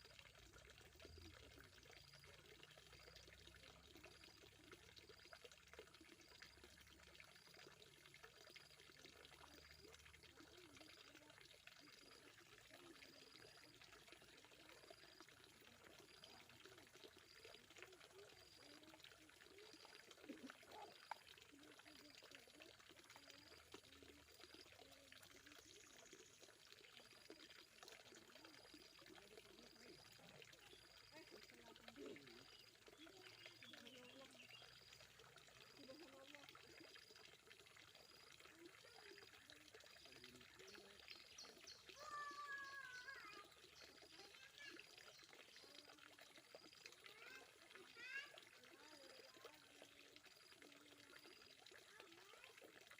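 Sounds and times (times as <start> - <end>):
water trickling into pond: 0.0 - 52.9
faint distant voices: 0.1 - 52.9.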